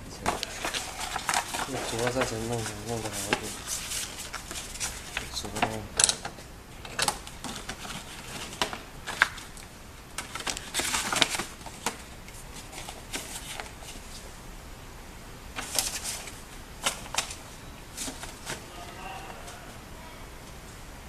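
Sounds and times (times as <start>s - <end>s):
stiff paper rustling: 0.2s - 5.9s, 6.9s - 14.3s, 15.6s - 19.7s.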